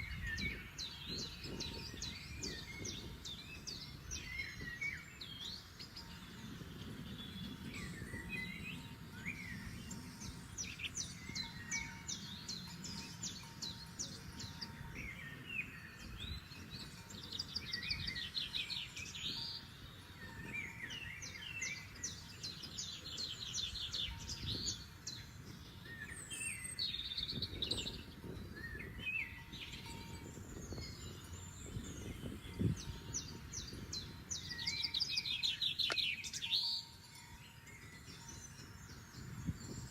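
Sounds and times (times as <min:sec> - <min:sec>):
songbirds trilling and chirping: 0:00.0 - 0:39.9.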